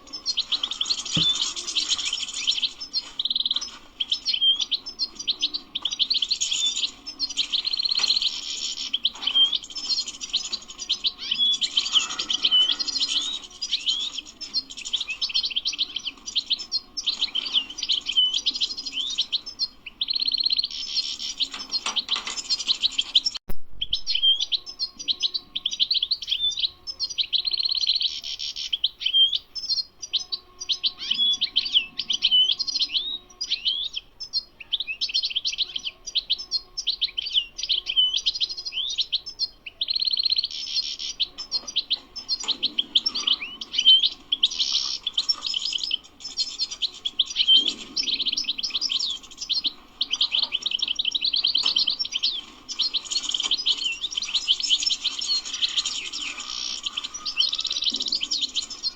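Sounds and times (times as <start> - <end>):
goldfinch singing: 0.0 - 58.9.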